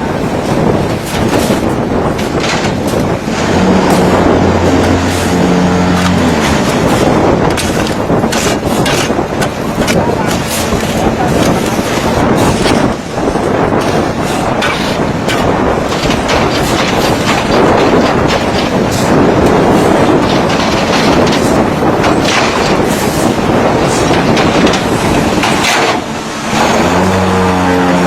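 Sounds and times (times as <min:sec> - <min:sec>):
steady motor hum: 0:00.1 - 0:28.0
block press machine clattering: 0:00.3 - 0:27.0.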